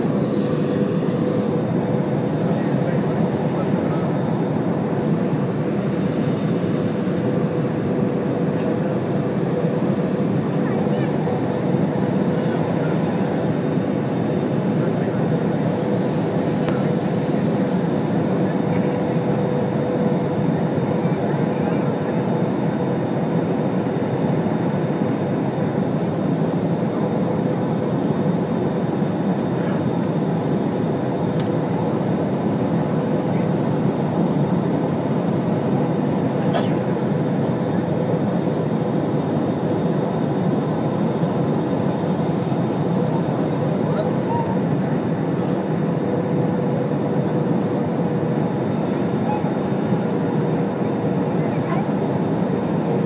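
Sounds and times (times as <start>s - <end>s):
airliner engine and airflow rush: 0.0s - 53.0s.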